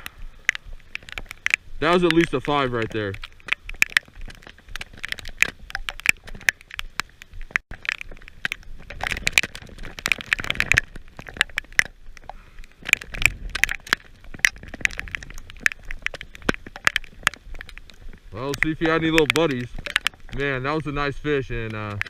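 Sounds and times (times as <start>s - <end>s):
heavy rain patter: 0.0s - 22.0s.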